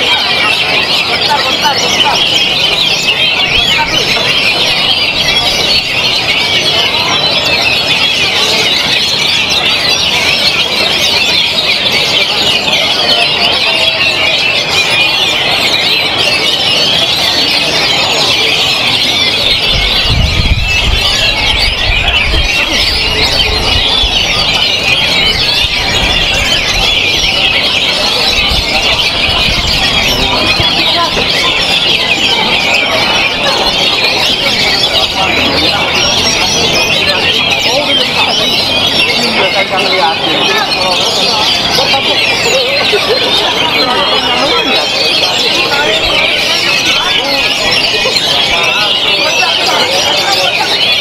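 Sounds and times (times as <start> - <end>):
birds singing in chorus: 0.0 - 51.0.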